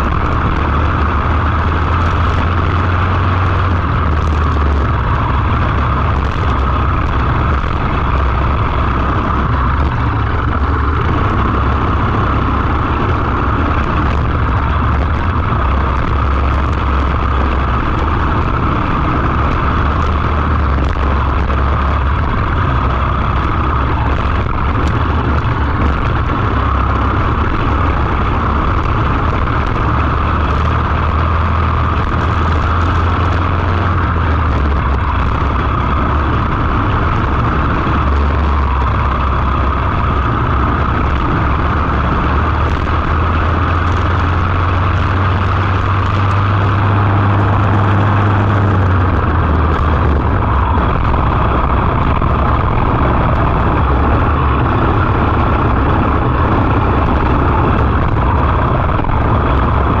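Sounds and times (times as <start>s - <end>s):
kart engine racing: 0.0s - 60.0s.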